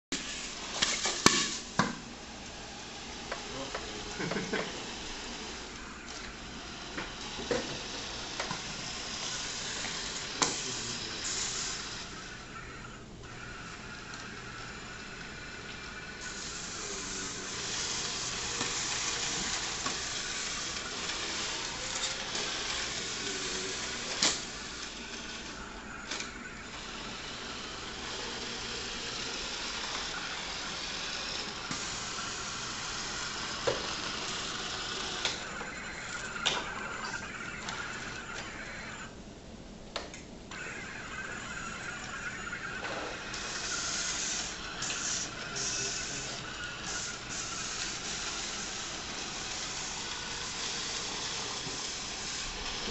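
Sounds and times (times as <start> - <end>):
robot vacuum whirring: 0.2 - 39.2, 40.5 - 52.9.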